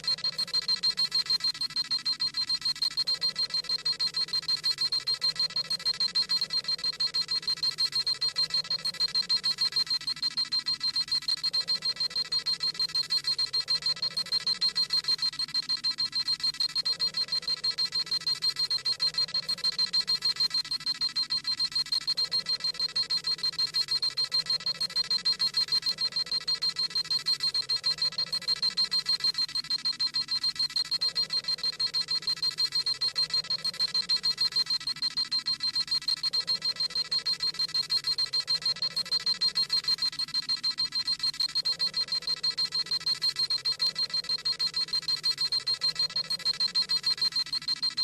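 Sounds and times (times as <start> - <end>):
rapid high electronic beeping: 0.0 - 48.0.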